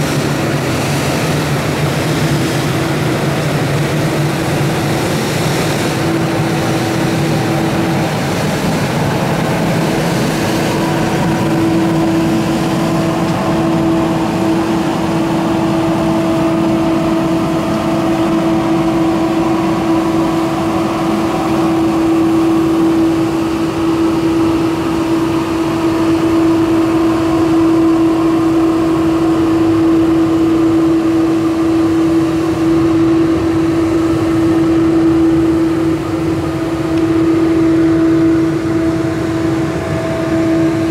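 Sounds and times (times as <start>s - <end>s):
sweeper truck engine whine: 0.0s - 40.9s.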